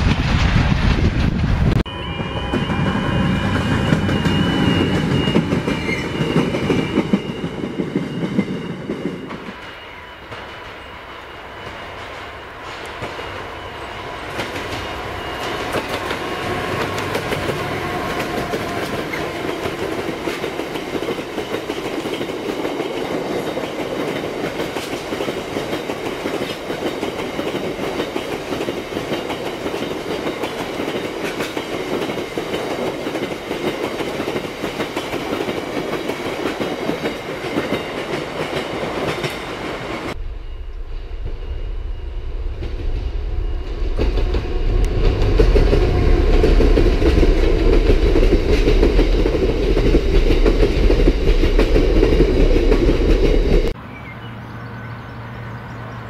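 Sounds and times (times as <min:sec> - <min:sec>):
train wheels clattering on rails: 0:02.2 - 0:40.6, 0:41.3 - 0:53.8.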